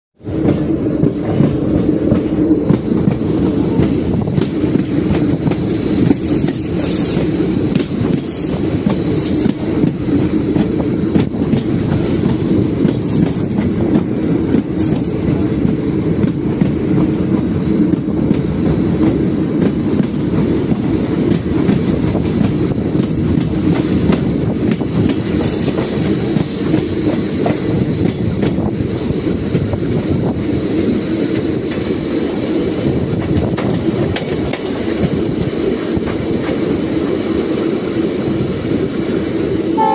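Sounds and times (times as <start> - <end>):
train wheels rumbling: 0.2 - 39.9.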